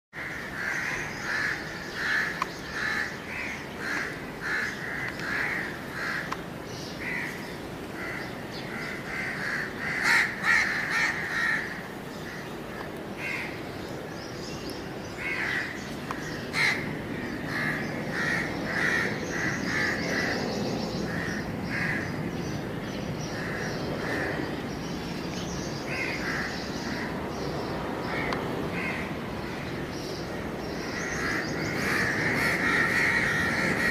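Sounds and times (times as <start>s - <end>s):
crows cawing: 0.2s - 6.4s, 7.0s - 13.6s, 15.2s - 22.1s, 23.3s - 24.5s, 25.9s - 27.2s, 28.0s - 33.9s.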